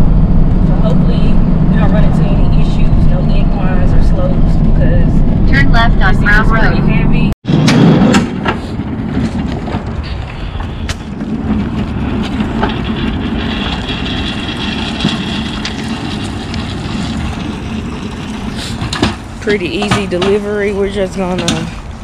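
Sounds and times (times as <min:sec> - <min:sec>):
pallet jack wheels rumbling on concrete: 0:00.0 - 0:22.0.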